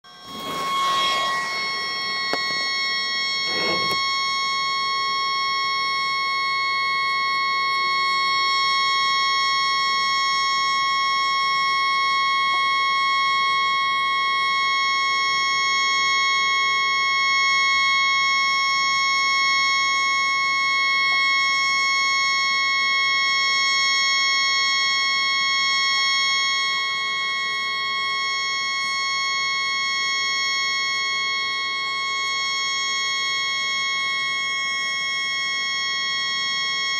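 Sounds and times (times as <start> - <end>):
tugboat horn steady high tone: 0.0 - 36.9.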